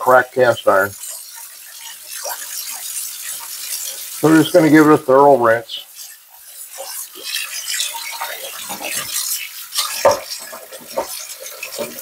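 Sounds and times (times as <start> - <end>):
tap water splashing into skillet: 0.0 - 12.0.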